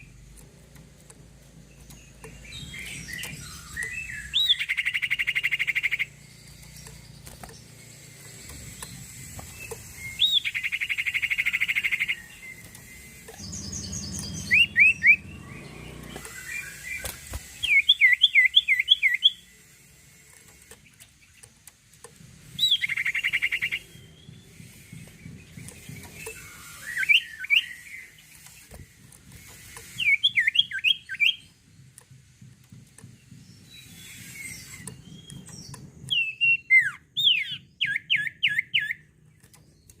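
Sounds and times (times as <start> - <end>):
songbird trilling and whistling: 1.6 - 19.8, 22.5 - 31.9, 33.0 - 40.0.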